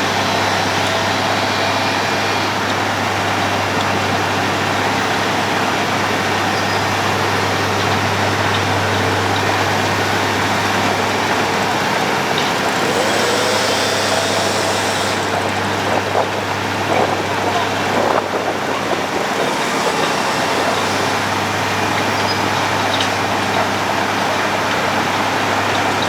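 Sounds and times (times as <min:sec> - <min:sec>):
road planing machine drone: 0:00.0 - 0:26.0.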